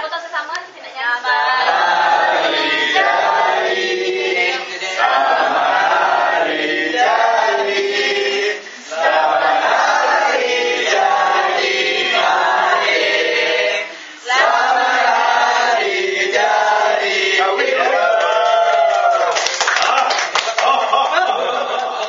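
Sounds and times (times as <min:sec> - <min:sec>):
group singing a birthday song: 0:00.9 - 0:19.1.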